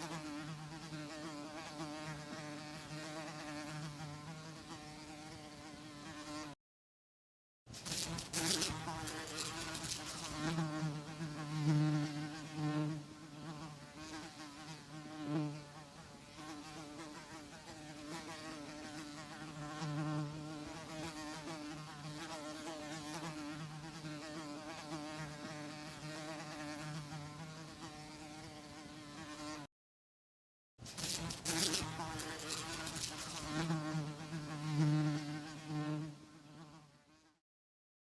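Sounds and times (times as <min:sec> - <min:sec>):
housefly buzzing: 0:00.0 - 0:06.6, 0:07.7 - 0:29.7, 0:30.8 - 0:37.4.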